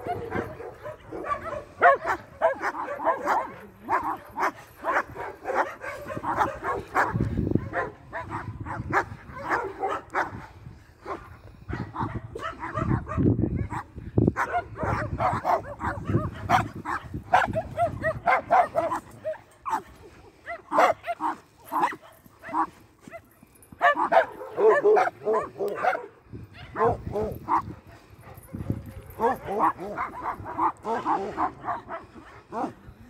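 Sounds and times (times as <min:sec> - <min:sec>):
dogs barking and yipping: 0:00.0 - 0:32.9.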